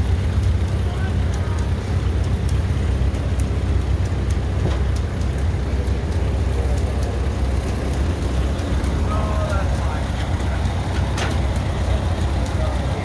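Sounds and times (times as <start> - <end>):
engine running steadily: 0.0 - 13.0
faint clicks: 0.3 - 13.0.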